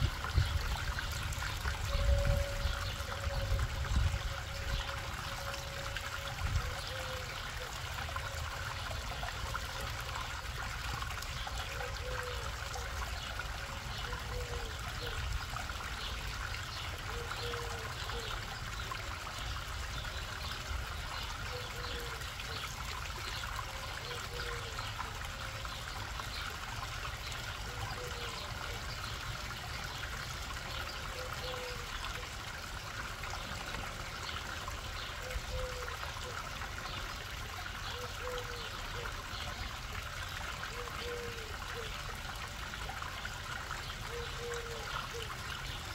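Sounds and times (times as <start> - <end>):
water trickling down rocks: 0.0 - 45.9.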